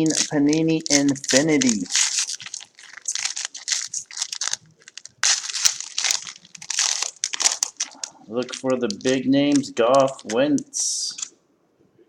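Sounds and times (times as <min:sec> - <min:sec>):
packaging crinkling and tearing: 0:00.0 - 0:11.3.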